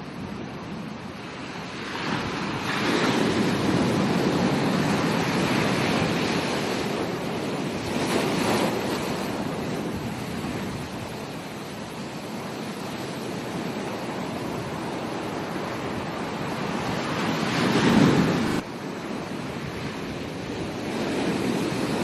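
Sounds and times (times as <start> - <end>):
ocean waves breaking: 0.0 - 22.0
wind on microphone: 0.0 - 22.0.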